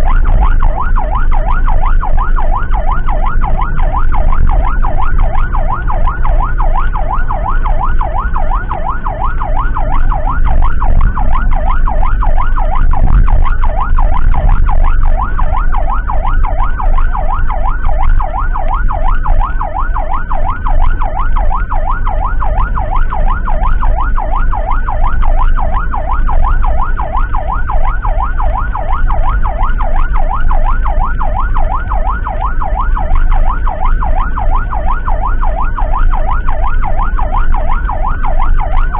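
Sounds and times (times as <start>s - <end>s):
emergency siren yelping: 0.0s - 38.9s
vehicle engine and road noise: 0.0s - 38.9s.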